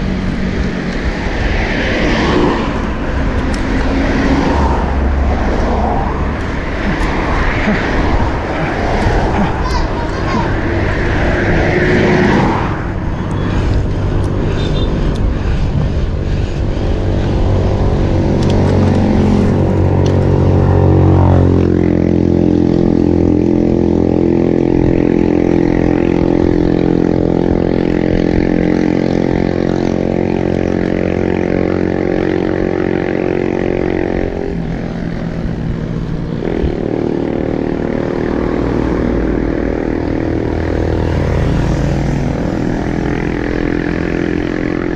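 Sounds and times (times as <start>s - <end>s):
vehicle engine droning: 0.0s - 44.9s.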